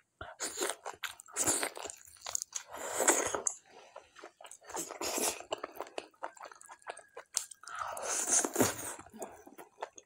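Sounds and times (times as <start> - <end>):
person chewing food: 0.2 - 10.0.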